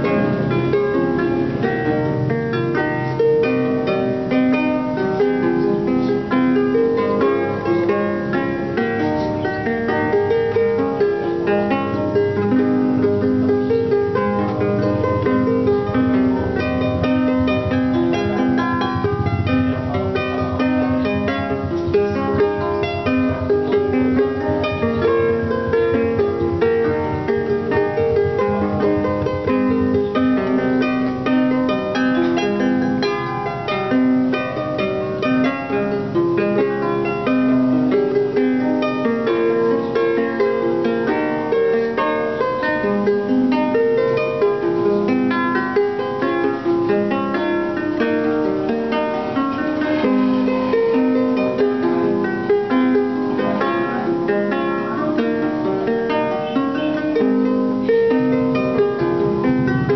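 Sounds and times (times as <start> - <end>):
harp plucked melody: 0.0 - 59.9.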